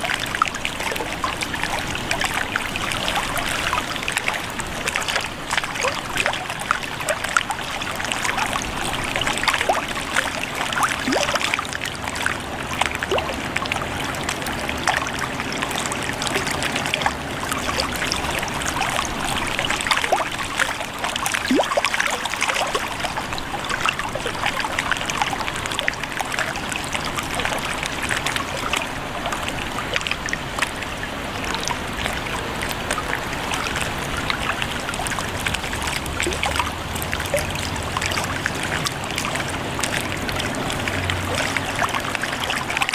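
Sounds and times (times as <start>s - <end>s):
lake water lapping: 0.0s - 42.9s.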